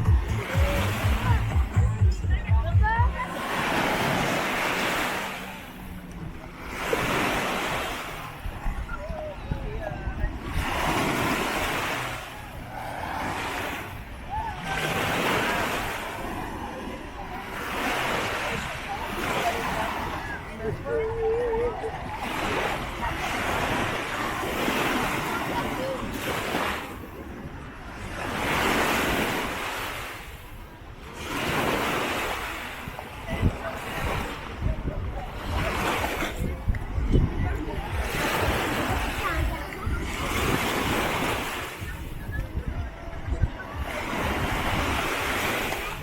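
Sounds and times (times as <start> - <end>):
waves breaking on a beach: 0.0 - 46.0.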